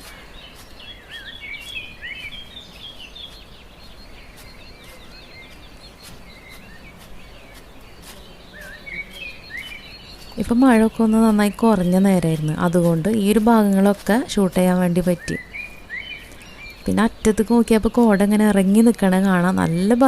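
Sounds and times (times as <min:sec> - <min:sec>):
outdoor ambience hiss: 0:00.0 - 0:20.0
small birds chirping: 0:00.0 - 0:20.0.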